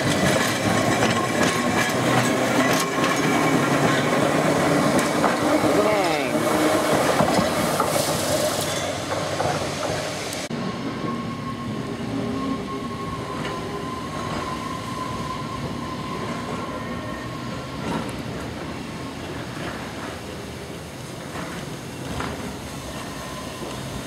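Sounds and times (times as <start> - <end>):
electric tram running on rails: 0.0 - 24.0.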